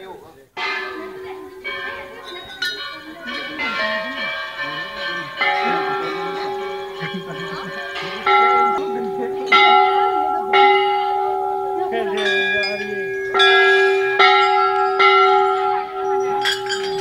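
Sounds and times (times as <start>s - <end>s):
brass bells ringing: 0.6s - 17.0s.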